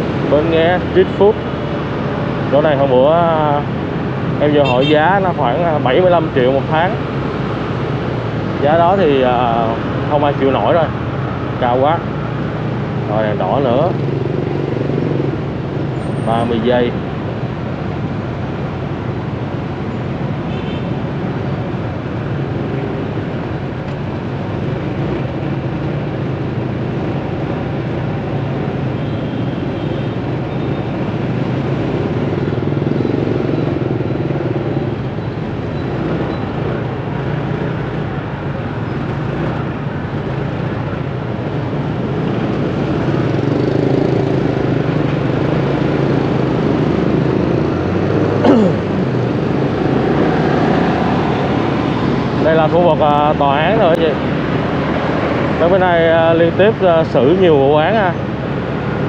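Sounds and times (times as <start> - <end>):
motorbike and car engines: 0.0 - 59.0.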